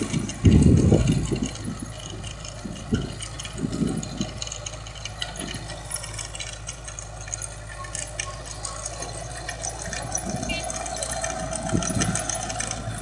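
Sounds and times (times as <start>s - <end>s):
distant tractor engine running: 0.0s - 13.0s.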